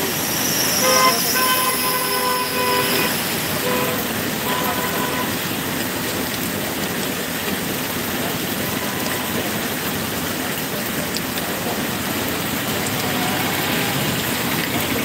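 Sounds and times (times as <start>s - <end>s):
heavy rain on wet road: 0.0s - 15.0s
vehicle driving through water: 0.0s - 15.0s.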